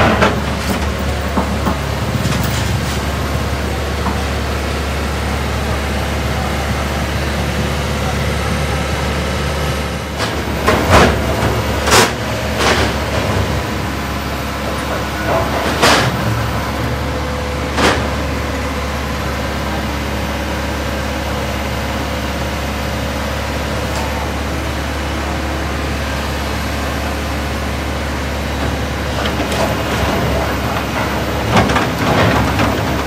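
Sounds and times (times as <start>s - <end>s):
traffic noise: 0.0s - 33.0s
truck engine running: 0.0s - 33.0s.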